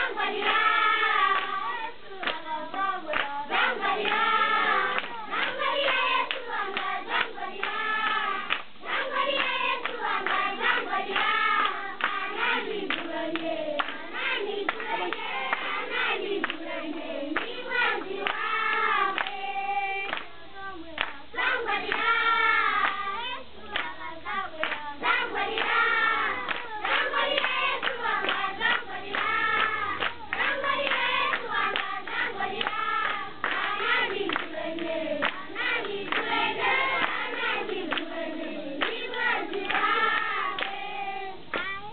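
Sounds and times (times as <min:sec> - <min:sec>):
children singing in unison: 0:00.0 - 0:41.9
hands clapping in rhythm: 0:00.0 - 0:41.9.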